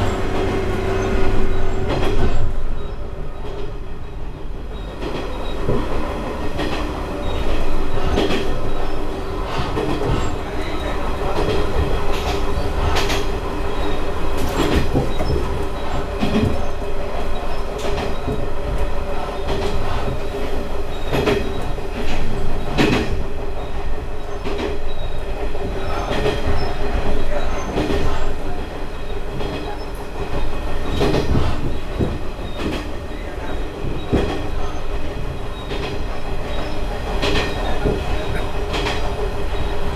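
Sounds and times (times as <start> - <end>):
railcar engine hum: 0.0 - 39.9
wheels clacking over rail joints: 0.0 - 39.9.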